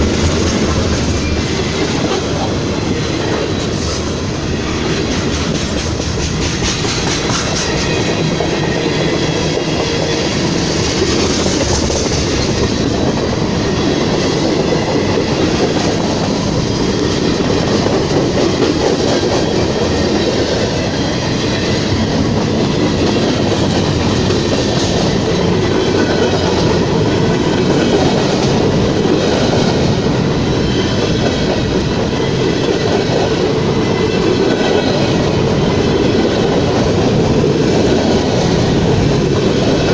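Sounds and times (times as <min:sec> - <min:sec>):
train clickety-clack on rails: 0:00.0 - 0:39.9.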